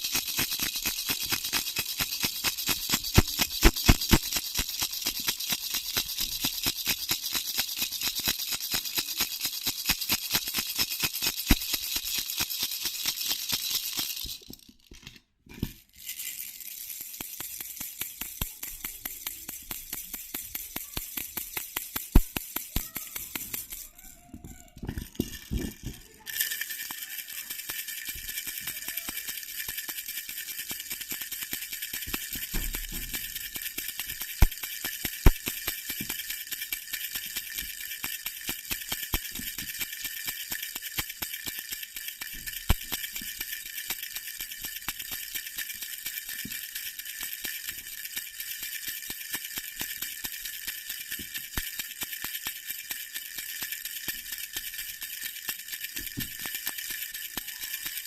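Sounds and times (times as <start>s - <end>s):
small bells jingling: 0.0s - 14.6s, 15.8s - 58.0s
baby rattle shaken: 0.0s - 58.0s.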